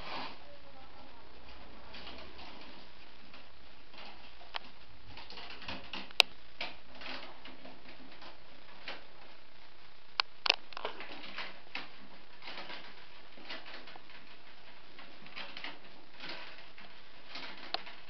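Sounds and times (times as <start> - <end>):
willow rods rustling and creaking: 0.0 - 18.0.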